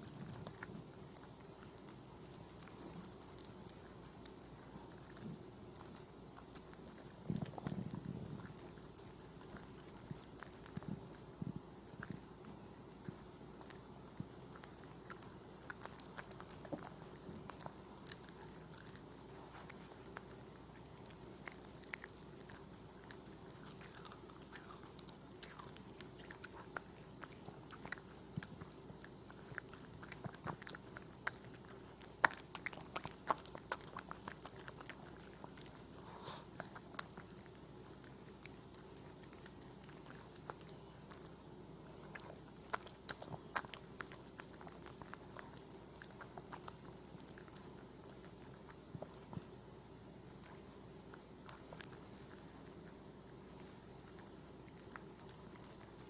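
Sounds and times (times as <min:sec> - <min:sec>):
dog chewing: 0:00.0 - 0:56.0
faint steady hum: 0:00.0 - 0:56.0.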